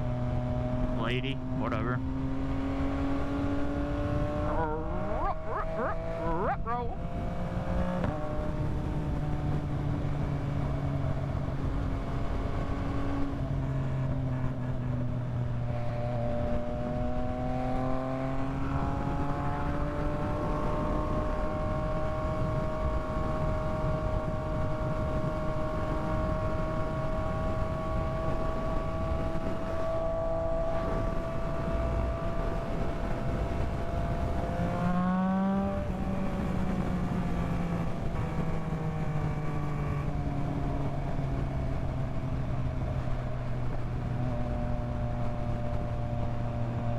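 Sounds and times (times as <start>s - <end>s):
motorcycle engine cruising: 0.0s - 46.9s
wind and road noise: 0.0s - 46.9s.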